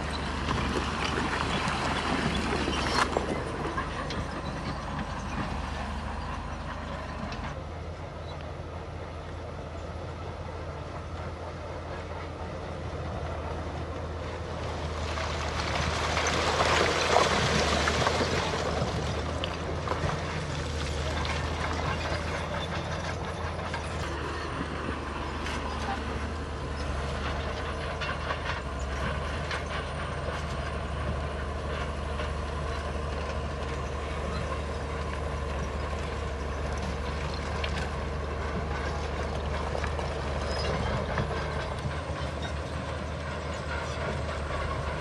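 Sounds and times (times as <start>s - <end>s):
tracks grinding over stone: 0.0s - 7.6s, 13.1s - 45.0s
heavy diesel engine running: 0.0s - 45.0s.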